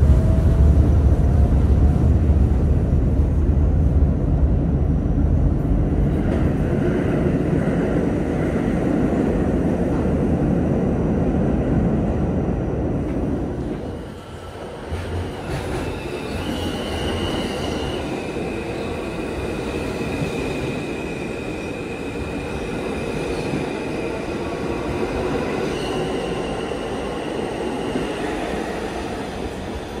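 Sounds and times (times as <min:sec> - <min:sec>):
subway car wheels rumbling: 0:00.0 - 0:30.0.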